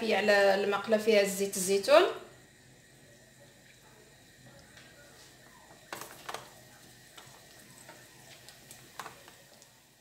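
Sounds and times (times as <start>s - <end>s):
garlic frying in oil: 0.0s - 10.0s.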